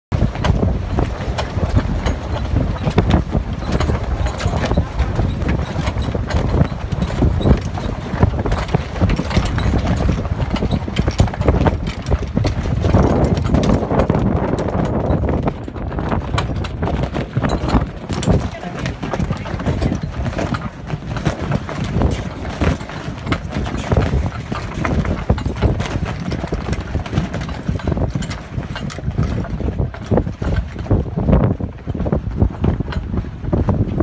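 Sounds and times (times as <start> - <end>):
wind rumbling on microphone: 0.1 - 34.0
rigging and blocks rattling: 0.2 - 33.6
sails luffing: 0.2 - 34.0.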